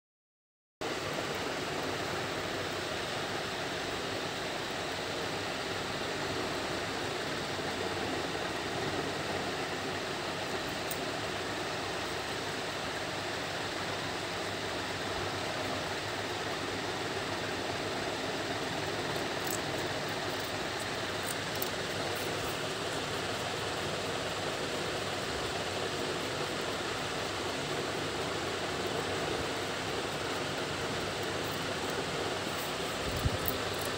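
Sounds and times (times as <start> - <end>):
steady background hiss: 0.8 - 33.9.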